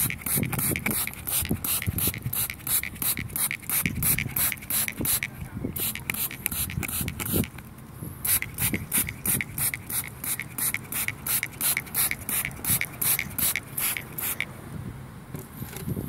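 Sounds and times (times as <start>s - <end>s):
spray bottle squirting: 0.0s - 14.5s.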